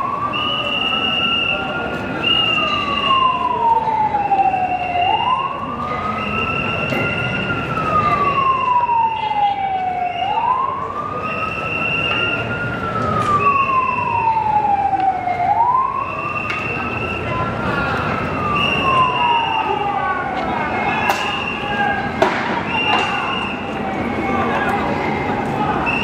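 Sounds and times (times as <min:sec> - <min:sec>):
steady high siren tone: 0:00.0 - 0:26.0
street noise: 0:00.0 - 0:26.0
wailing siren: 0:00.0 - 0:26.0.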